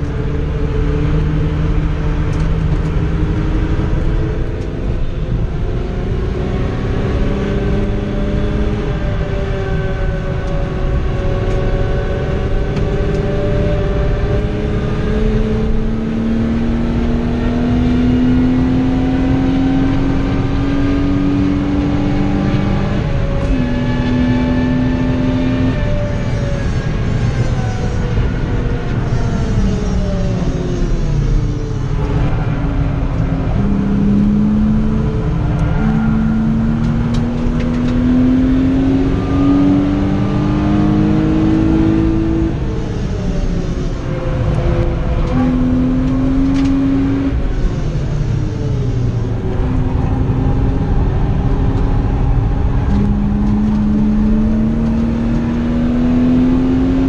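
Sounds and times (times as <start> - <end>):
car engine revving: 0.0 - 57.0
road and tyre rumble: 0.0 - 57.0.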